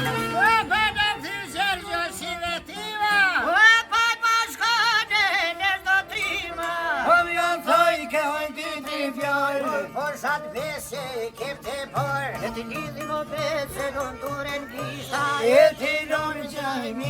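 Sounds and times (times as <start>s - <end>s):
ornamented folk melody: 0.0s - 17.0s.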